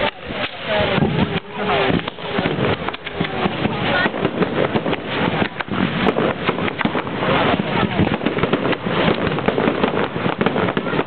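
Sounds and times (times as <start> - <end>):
crowd voices: 0.0 - 11.0
fireworks banging and crackling: 0.0 - 11.0.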